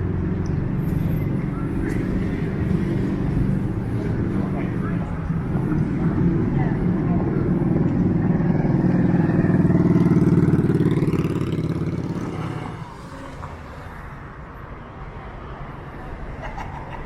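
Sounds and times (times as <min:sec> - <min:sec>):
vehicle engine passing by: 0:00.0 - 0:14.3
background street traffic: 0:00.0 - 0:17.0.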